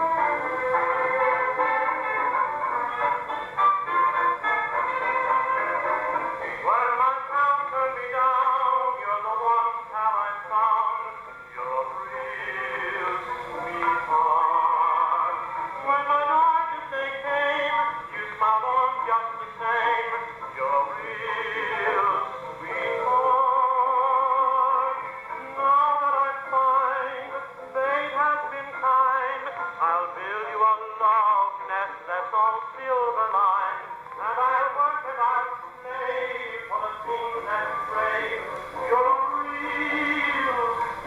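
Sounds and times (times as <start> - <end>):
gramophone playing dance-band music: 0.0 - 41.0.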